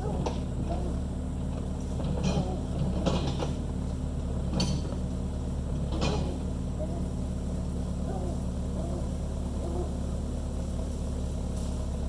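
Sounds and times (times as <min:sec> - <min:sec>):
crawler engine running: 0:00.0 - 0:12.0.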